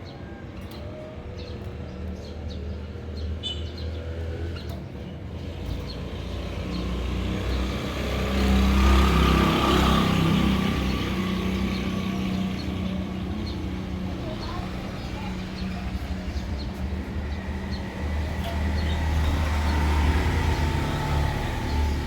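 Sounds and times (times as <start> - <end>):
vehicle engine hum passing: 4.0 - 22.0.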